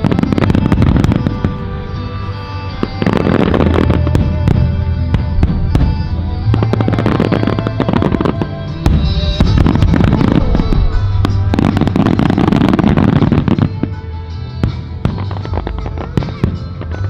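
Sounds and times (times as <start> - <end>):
fireworks bangs and crackles: 0.0 - 17.0
music playing: 0.0 - 17.0.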